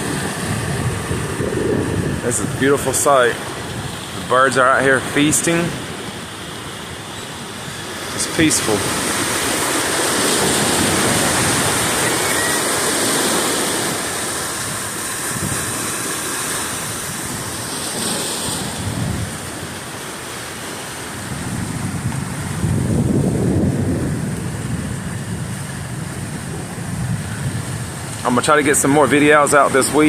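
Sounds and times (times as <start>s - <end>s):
water rushing and churning: 0.0s - 30.0s.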